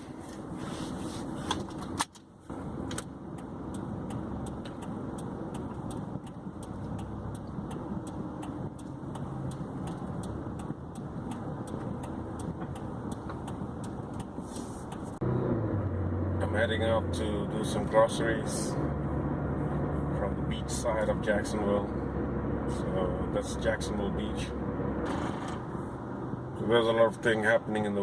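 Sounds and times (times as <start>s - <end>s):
car engine running: 0.0s - 27.2s.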